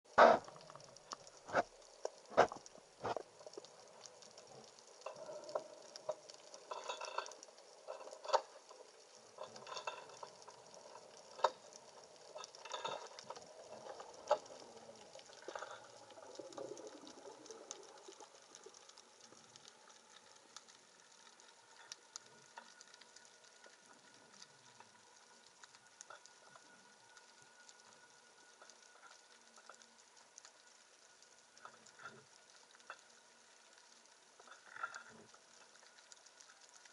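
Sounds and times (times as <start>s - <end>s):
underwater fizzing crackle: 0.0s - 36.9s
faint steady tone: 0.2s - 36.9s.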